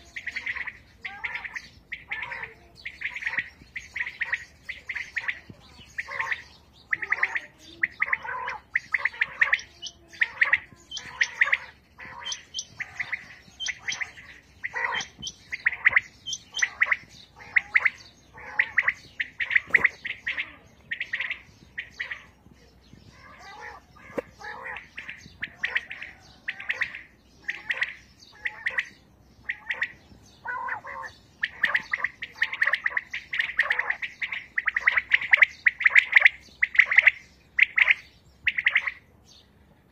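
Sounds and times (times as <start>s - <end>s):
quails calling: 0.0s - 39.1s.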